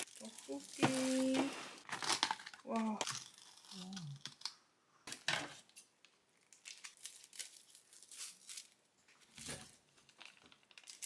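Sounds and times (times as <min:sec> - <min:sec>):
plastic packaging crinkling: 0:00.0 - 0:05.3, 0:06.3 - 0:11.0.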